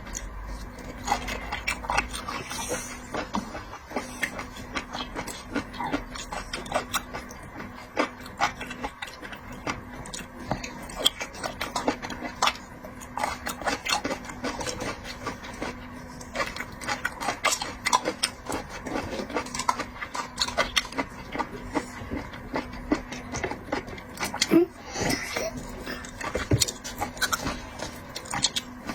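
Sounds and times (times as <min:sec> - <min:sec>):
faint steady hum: 0:00.0 - 0:28.9
person chewing and slurping: 0:00.0 - 0:28.9.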